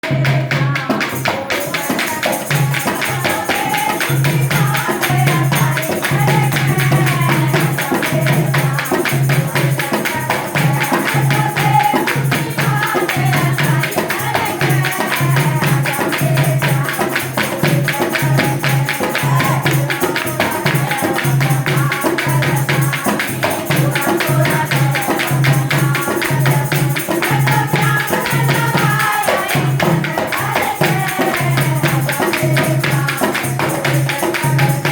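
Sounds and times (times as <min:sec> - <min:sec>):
fast steady percussion beat: 0:00.0 - 0:34.9
jingling tambourine-like percussion: 0:00.0 - 0:34.9
person singing devotional song: 0:00.0 - 0:34.9.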